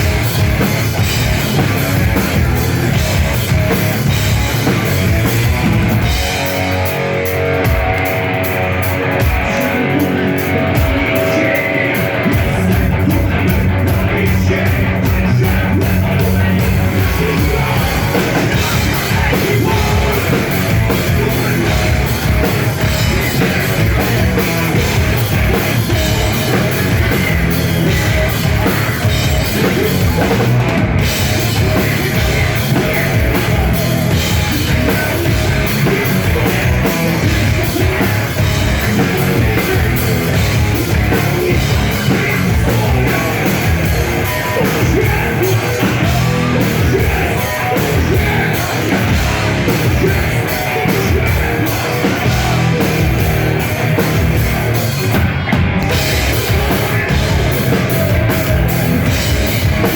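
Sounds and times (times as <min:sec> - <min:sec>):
distorted guitar: 0:00.0 - 0:59.9
heavy rock band playing live: 0:00.0 - 0:59.9.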